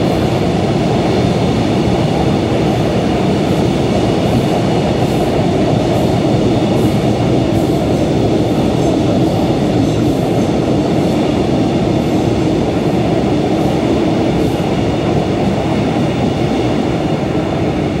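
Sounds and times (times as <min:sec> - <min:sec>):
passing train rumble: 0:00.0 - 0:18.0.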